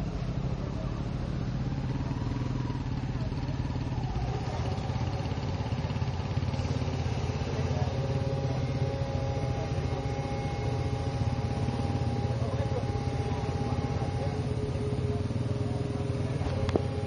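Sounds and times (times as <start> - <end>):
excavator diesel engine pulsing: 0.0 - 17.0
steady whine: 0.0 - 17.0.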